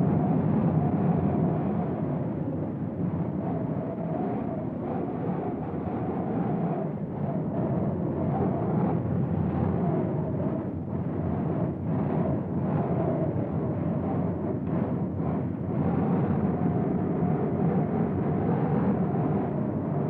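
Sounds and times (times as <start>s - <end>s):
strong wind gusts: 0.0s - 20.0s.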